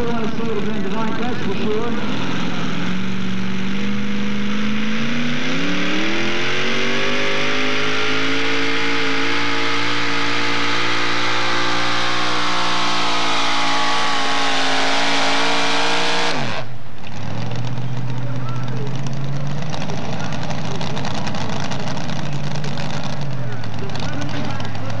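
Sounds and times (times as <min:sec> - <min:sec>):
truck engine revving under load: 0:00.0 - 0:25.0.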